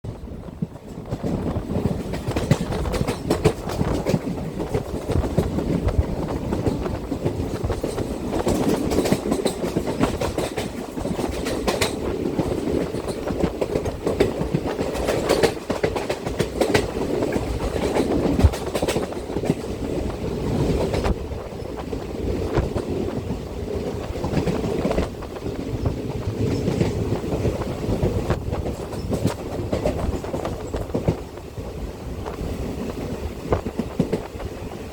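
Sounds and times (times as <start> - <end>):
train rumbling: 0.0 - 34.9
wheels clattering over rail joints: 0.6 - 31.2.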